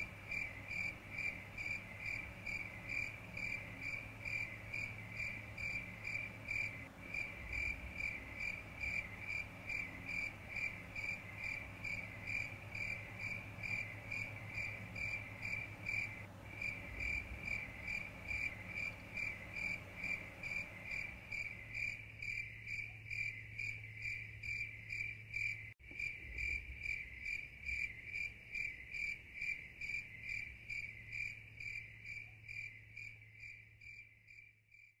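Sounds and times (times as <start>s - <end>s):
cricket chirping: 0.0s - 35.0s
faint low hum: 0.0s - 35.0s.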